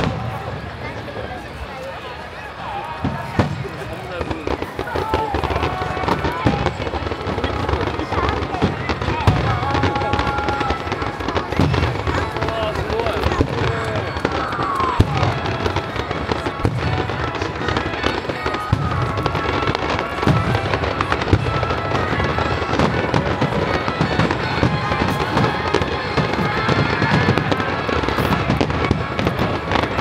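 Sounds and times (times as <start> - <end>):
firework booms: 0.0 - 1.2, 2.9 - 30.0
fireworks crackling: 0.0 - 30.0.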